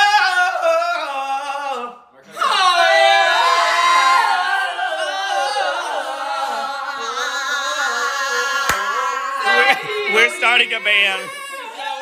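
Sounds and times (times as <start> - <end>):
group singing a cappella: 0.0 - 10.6.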